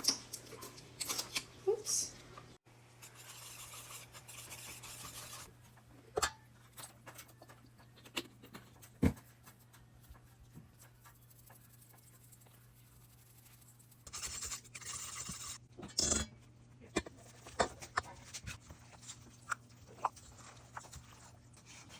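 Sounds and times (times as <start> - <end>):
scraping and rubbing: 3.0 - 5.5, 6.7 - 21.9.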